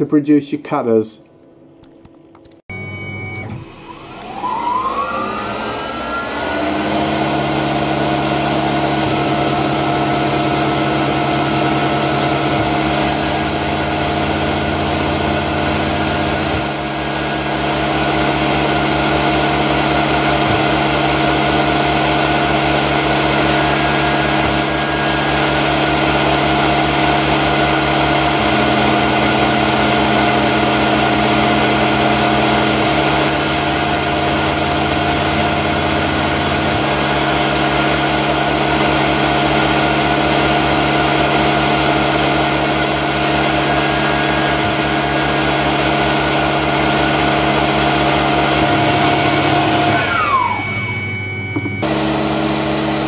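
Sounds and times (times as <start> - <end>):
milling machine cutting metal: 3.2 - 53.0.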